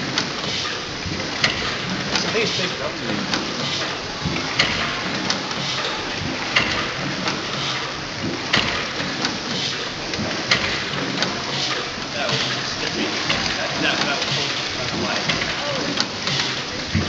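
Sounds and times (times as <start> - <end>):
steam engine hissing: 0.0 - 17.0
valve gear clicks: 0.0 - 17.0.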